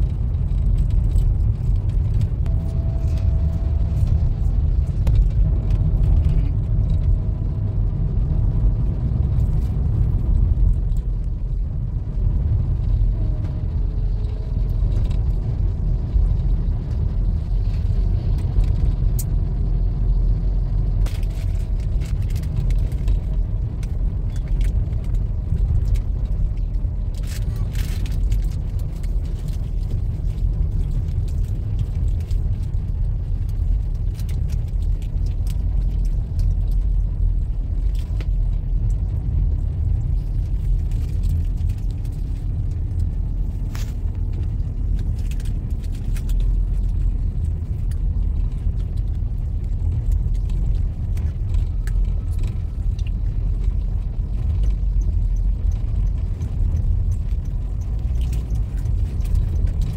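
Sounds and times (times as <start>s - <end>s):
car engine and tyres on wet road: 0.0s - 59.9s.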